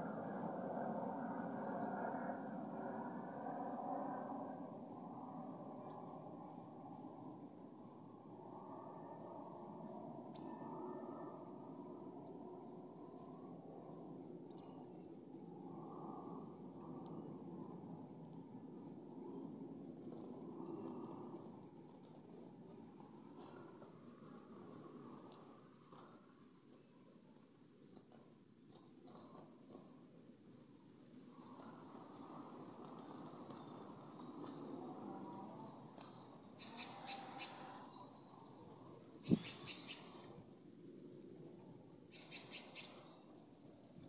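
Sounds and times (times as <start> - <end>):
insect chirping: 0.0 - 44.0.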